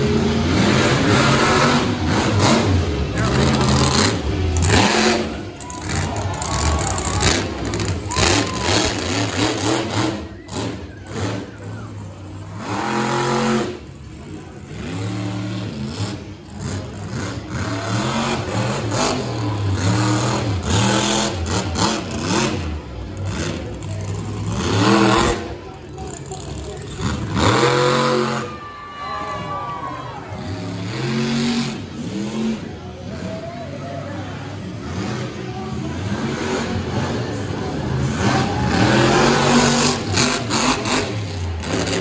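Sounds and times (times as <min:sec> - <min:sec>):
monster truck engine revving: 0:00.0 - 0:42.0.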